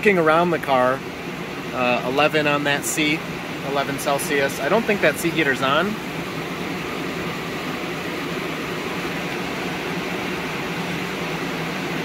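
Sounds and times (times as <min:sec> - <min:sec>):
car fans blowing air: 0:00.0 - 0:12.0.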